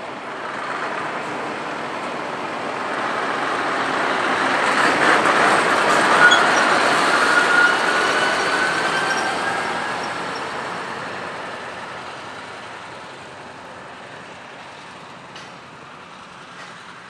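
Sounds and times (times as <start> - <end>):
truck driving past: 0.0 - 17.0.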